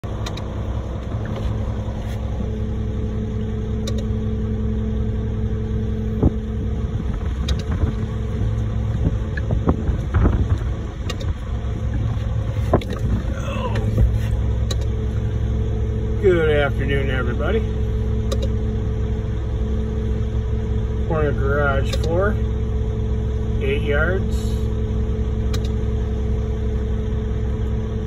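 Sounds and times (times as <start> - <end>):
diesel truck engine idling: 0.0 - 28.0.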